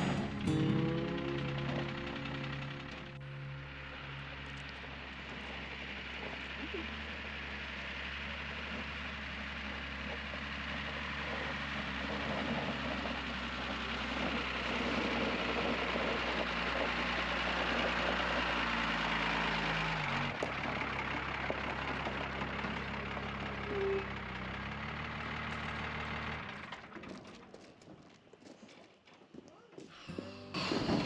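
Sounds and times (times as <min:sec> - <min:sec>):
pickup truck engine idling: 0:00.0 - 0:27.0.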